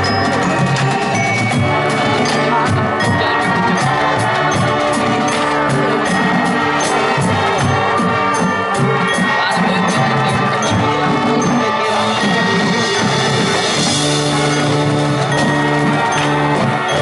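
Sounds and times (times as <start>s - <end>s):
drums beating: 0.0s - 17.0s
marching band playing: 0.0s - 17.0s.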